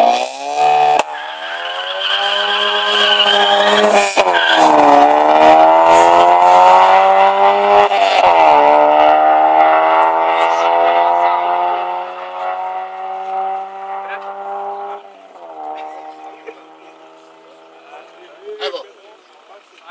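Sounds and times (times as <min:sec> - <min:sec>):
car engine accelerating hard: 0:00.0 - 0:19.7.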